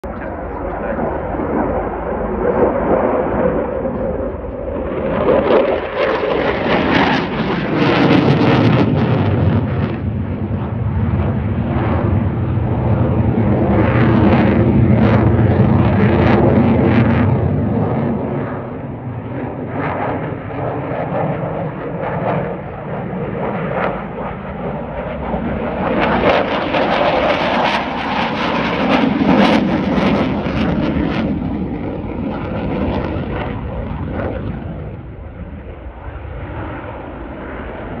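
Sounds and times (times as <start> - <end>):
jet flying overhead: 0.0 - 38.0.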